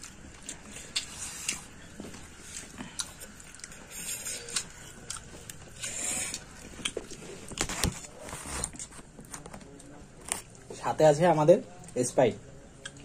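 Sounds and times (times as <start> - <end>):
chewing: 0.0 - 10.7, 12.8 - 13.0.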